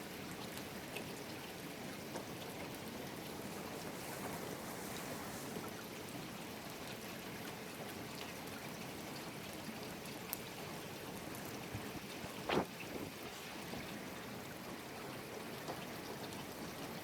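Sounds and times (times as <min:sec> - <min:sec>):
steady rain: 0:00.0 - 0:17.0
trickling water: 0:00.0 - 0:17.0
water drips: 0:00.0 - 0:17.0.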